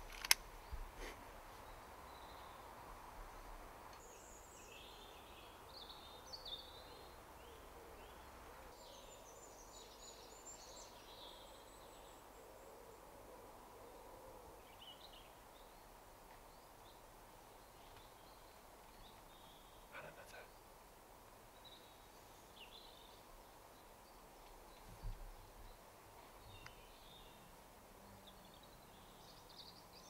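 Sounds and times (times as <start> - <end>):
small birds chirping: 0.0 - 12.4, 14.6 - 30.0
low steady hiss: 0.0 - 30.0.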